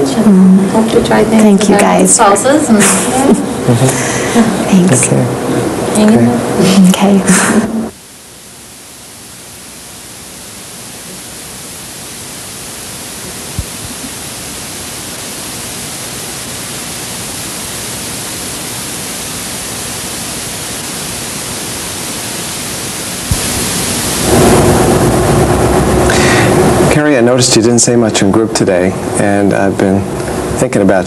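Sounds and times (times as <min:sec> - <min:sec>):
static hiss: 0:00.0 - 0:31.0.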